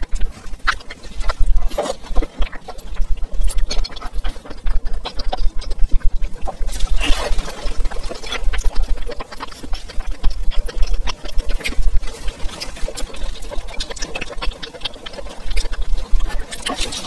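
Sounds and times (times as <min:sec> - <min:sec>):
close chewing and mouth smacks: 0:00.0 - 0:17.0.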